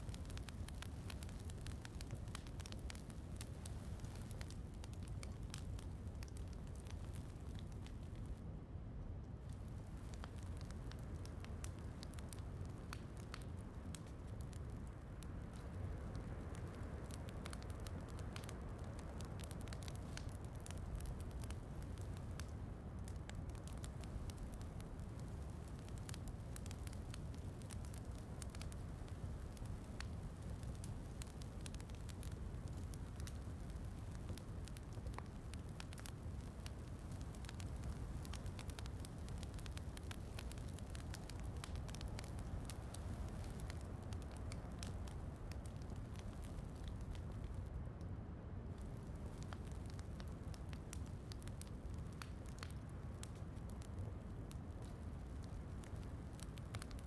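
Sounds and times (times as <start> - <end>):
soft hiss of rain: 0.0 - 57.0
wood fire crackling: 0.0 - 57.0.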